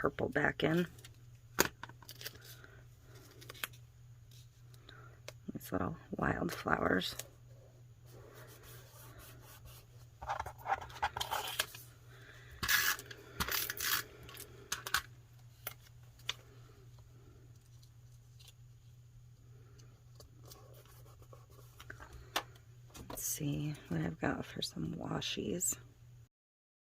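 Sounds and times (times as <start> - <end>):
steady low hum: 0.0 - 26.3.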